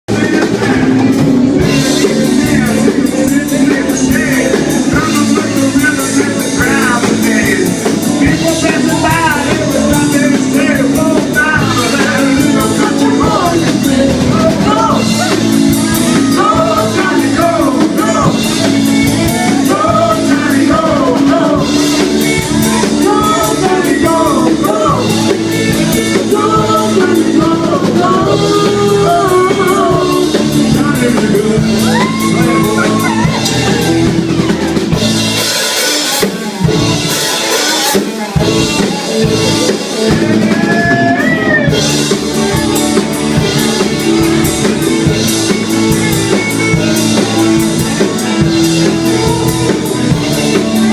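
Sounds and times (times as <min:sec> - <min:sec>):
bass: 0:00.0 - 0:50.9
man singing lead: 0:00.0 - 0:50.9
drum kit: 0:00.1 - 0:50.9
electric guitar: 0:00.1 - 0:50.9.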